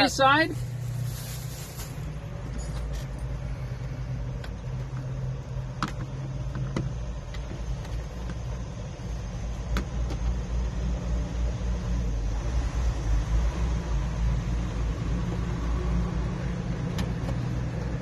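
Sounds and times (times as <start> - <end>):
truck engine idling hum: 0.0 - 18.0.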